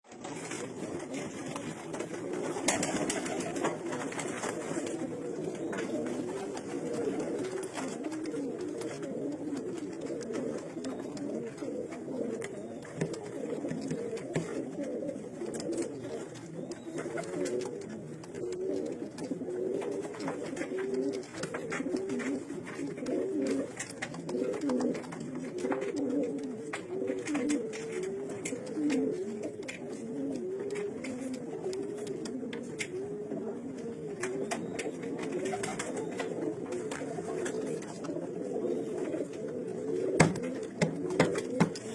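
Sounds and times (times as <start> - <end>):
pigeons cooing: 0.1 - 41.9.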